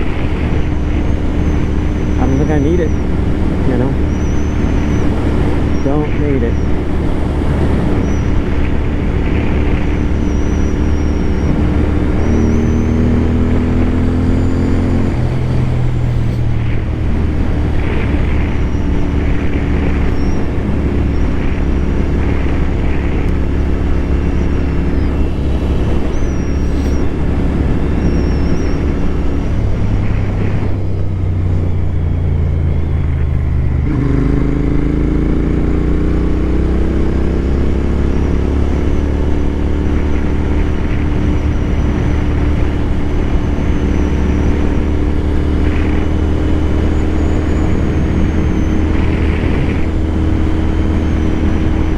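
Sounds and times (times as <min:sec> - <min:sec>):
motorcycle engine running: 0:00.0 - 0:51.9
wind rumble on microphone: 0:00.0 - 0:51.9.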